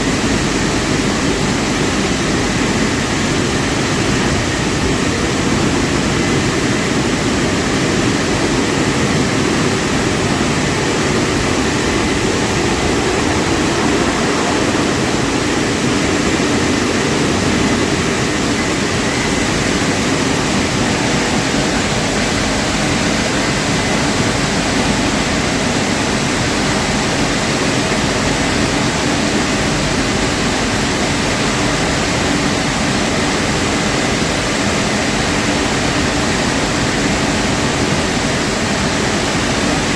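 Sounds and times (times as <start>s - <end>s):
car wash rushing noise: 0.0s - 39.9s.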